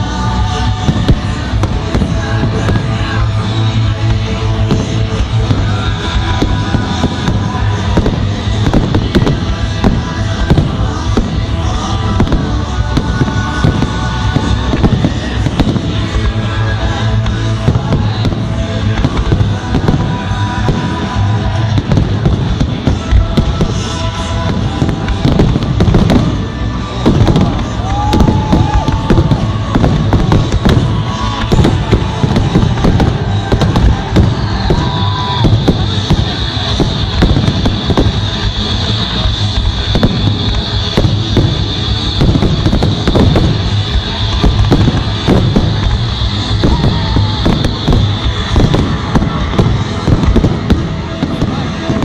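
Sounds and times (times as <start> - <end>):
fireworks banging and crackling: 0.0 - 52.0
rock music: 0.0 - 52.0.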